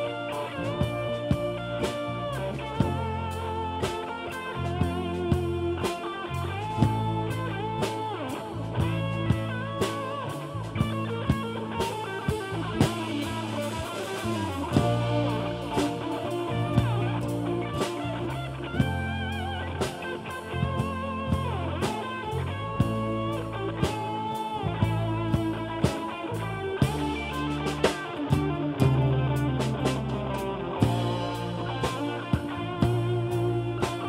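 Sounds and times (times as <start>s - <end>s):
bass: 0.0s - 34.0s
electric guitar bent notes: 0.0s - 34.0s
steady drum beat: 0.0s - 34.0s.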